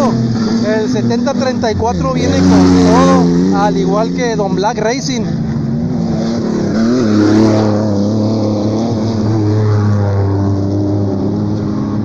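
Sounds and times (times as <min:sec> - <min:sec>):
truck engines at full throttle: 0:00.0 - 0:12.0.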